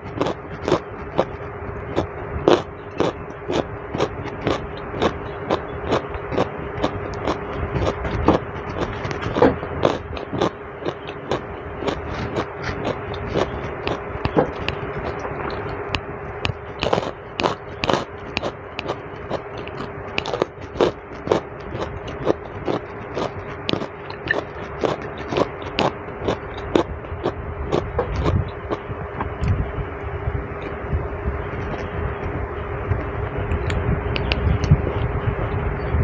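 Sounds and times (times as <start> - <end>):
person chewing soft food: 0.0 - 29.6, 30.6 - 35.1
steady hum: 0.0 - 36.0.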